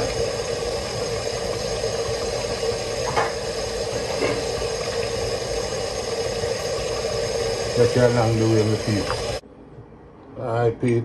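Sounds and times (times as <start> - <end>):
water boiling: 0.0 - 9.4
low hum: 0.0 - 9.5.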